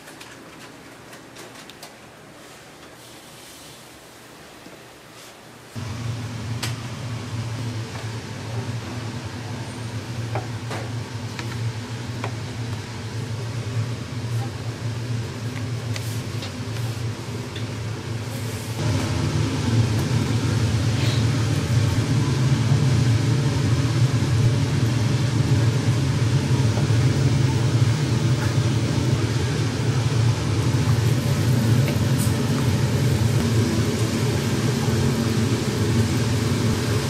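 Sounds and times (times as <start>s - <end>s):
low mechanical rumble: 5.8s - 37.0s.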